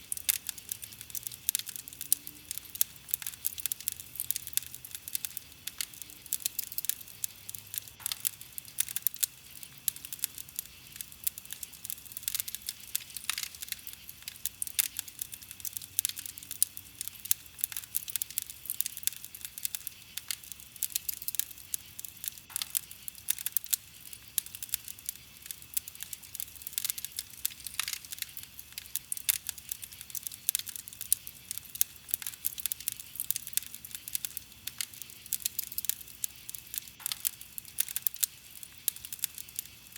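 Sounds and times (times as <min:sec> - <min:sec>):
campfire crackling: 0:00.0 - 0:39.9
faint hiss: 0:00.0 - 0:39.9.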